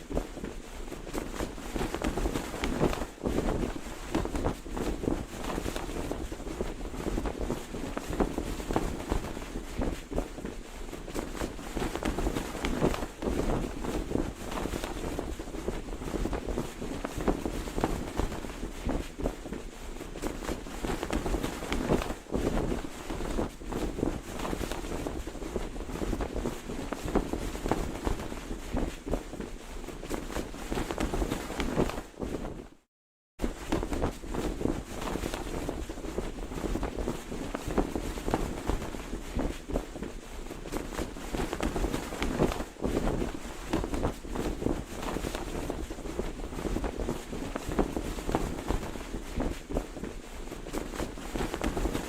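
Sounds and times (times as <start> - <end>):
flag flapping in wind: 0.0 - 52.0.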